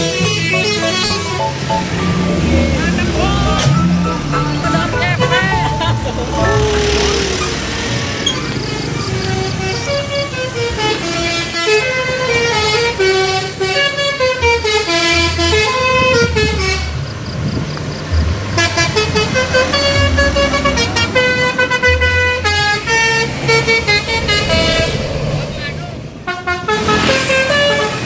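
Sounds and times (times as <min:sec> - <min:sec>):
horns playing a tune: 0:00.0 - 0:08.2, 0:09.0 - 0:17.1, 0:18.6 - 0:25.0, 0:26.2 - 0:28.0.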